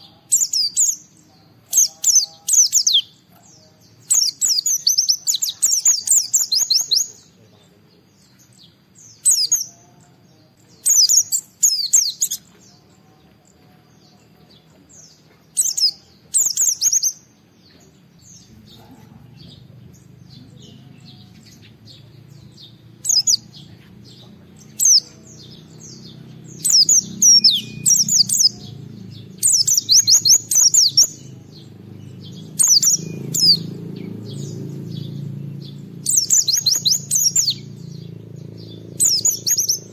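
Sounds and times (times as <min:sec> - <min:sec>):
bird twittering: 0:00.0 - 0:07.5, 0:08.1 - 0:12.8, 0:14.2 - 0:39.9
low background rumble: 0:02.8 - 0:39.9.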